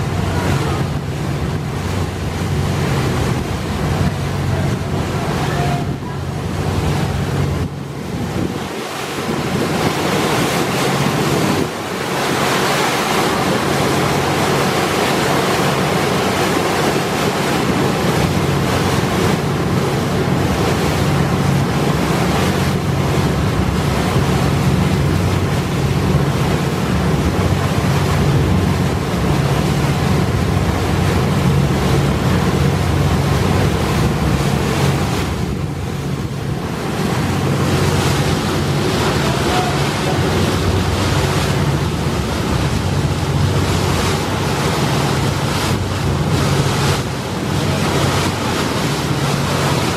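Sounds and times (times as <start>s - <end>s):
boat engine drone: 0.0s - 49.9s
river water rushing: 0.0s - 49.9s
wind buffeting microphone: 0.0s - 49.9s.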